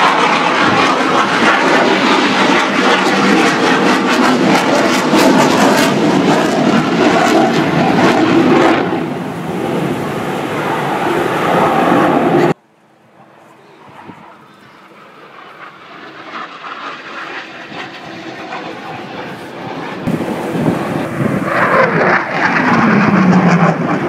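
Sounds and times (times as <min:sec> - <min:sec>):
airplane engine noise: 0:00.0 - 0:24.0.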